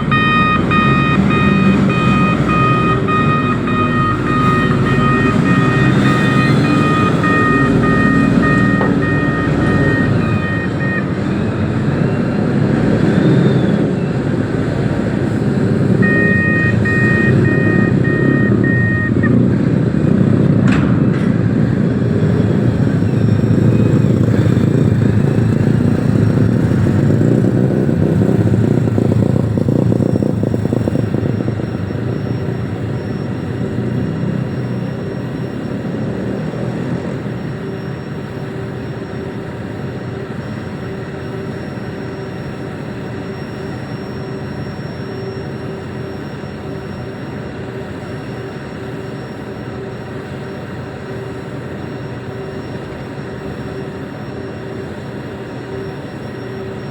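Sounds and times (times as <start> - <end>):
diesel engine rumbling: 0.0 - 56.9
reversing alarm beeping: 0.0 - 56.9.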